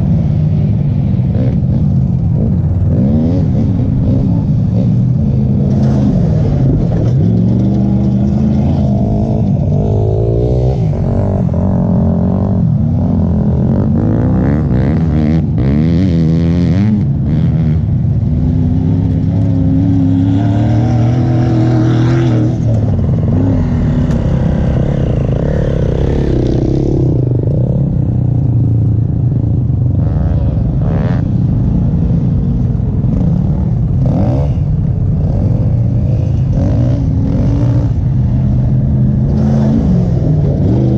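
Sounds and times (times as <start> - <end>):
atv engine revving while riding: 0.0 - 40.9.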